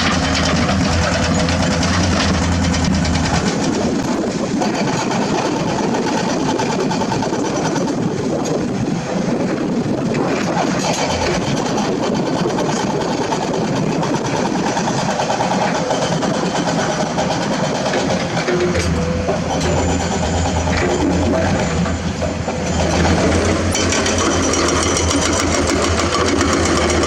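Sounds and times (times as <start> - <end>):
diesel machinery engine running: 0.0 - 27.0.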